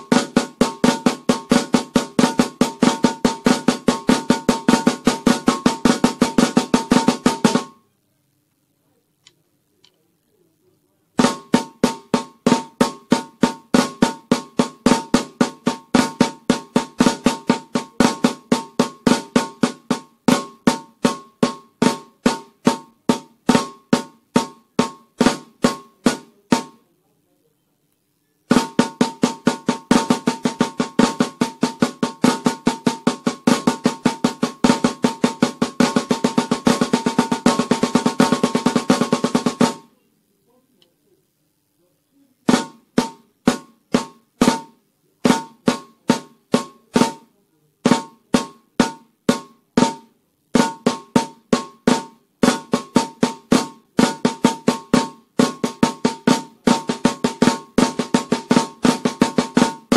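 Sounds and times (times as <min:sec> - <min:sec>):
snare drum rudiments: 0:00.0 - 0:07.8, 0:11.2 - 0:26.8, 0:28.5 - 0:39.9, 0:42.4 - 0:59.9.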